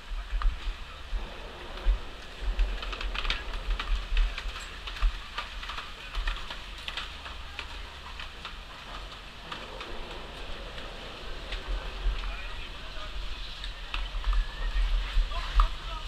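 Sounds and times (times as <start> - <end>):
low rumble: 0.0 - 15.9.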